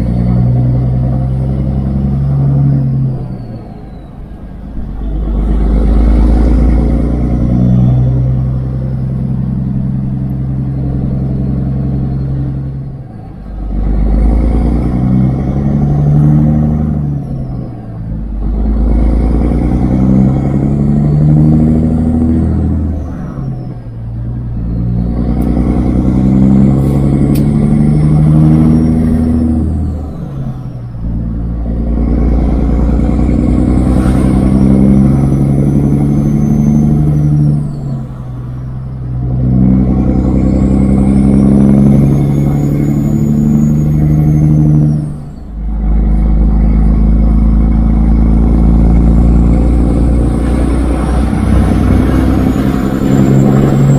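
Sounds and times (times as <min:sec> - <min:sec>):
truck diesel engine accelerating: 0:00.0 - 0:53.9.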